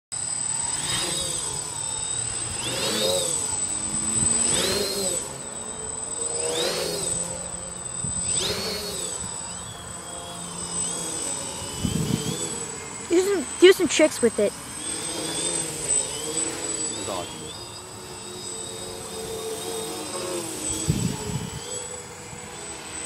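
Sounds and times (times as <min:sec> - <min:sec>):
quadcopter motors whining: 0:00.1 - 0:23.0.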